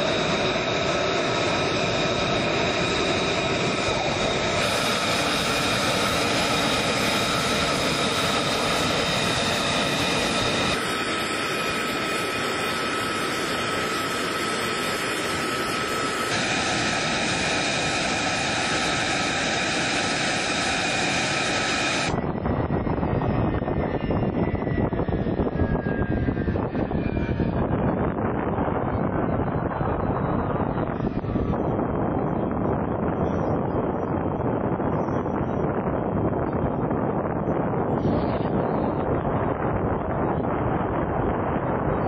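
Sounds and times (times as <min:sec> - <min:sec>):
jet engines whining: 0:00.0 - 0:42.0.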